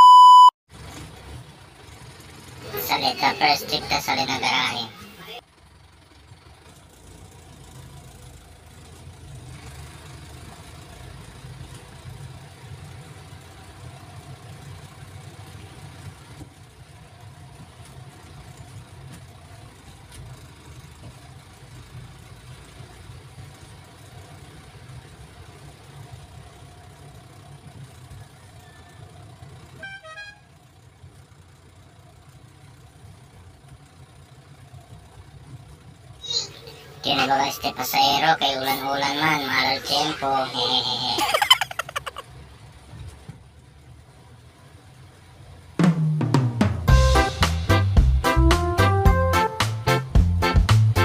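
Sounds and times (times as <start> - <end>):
diesel engine rumbling: 0.0 - 51.0.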